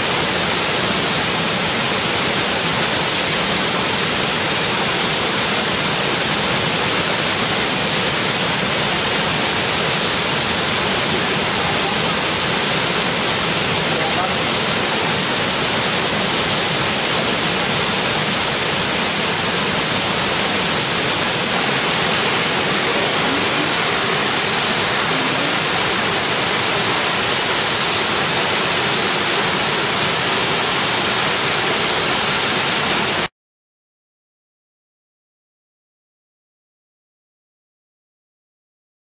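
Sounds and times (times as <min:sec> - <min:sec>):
waterfall rushing: 0:00.0 - 0:33.3.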